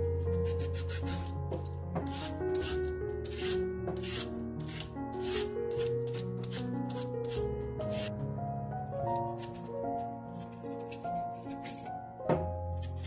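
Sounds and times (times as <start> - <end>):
background music with melody: 0.0 - 13.0
vegetable peeler scraping: 0.2 - 8.1, 9.1 - 12.0, 12.7 - 13.0.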